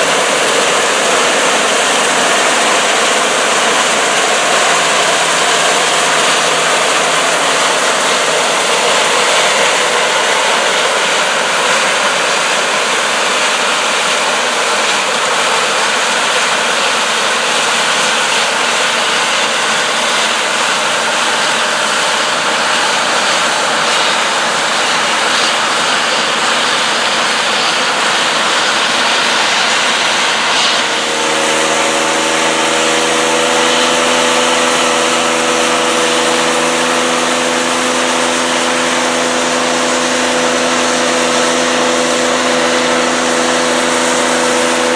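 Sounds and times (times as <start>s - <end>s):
combine harvester machinery rushing: 0.0s - 44.9s
engine humming tones: 0.0s - 44.9s.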